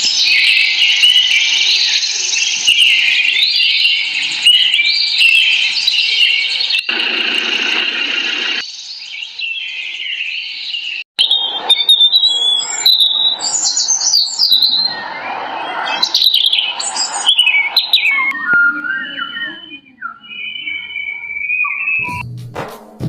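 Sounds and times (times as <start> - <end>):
birds chirping and twittering: 0.0 - 22.2.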